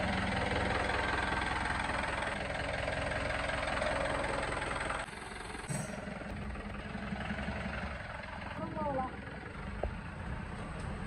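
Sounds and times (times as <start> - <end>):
diesel engine knocking: 0.0 - 11.0.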